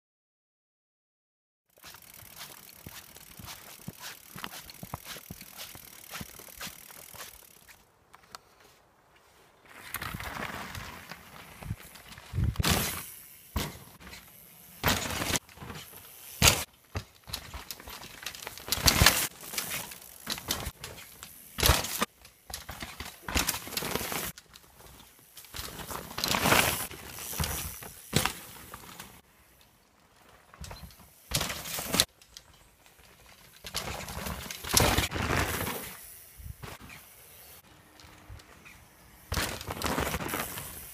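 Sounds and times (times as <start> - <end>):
bike rattling over bumps: 1.7 - 7.8, 9.7 - 40.9
bike tyres on dirt: 1.7 - 40.9.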